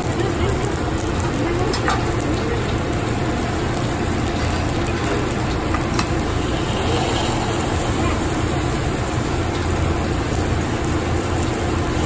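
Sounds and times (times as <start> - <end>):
food sizzling on a griddle: 0.0 - 12.0
low background rumble: 0.0 - 12.0.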